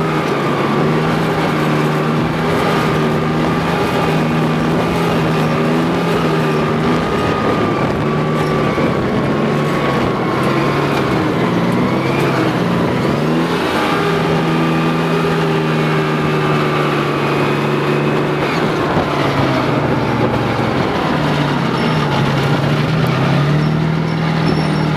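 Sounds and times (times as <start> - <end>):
tracked vehicle engine running: 0.0 - 24.9.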